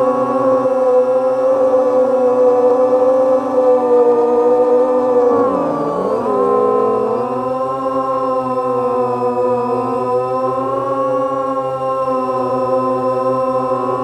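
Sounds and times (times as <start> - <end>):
drone propellers whining: 0.0 - 11.4.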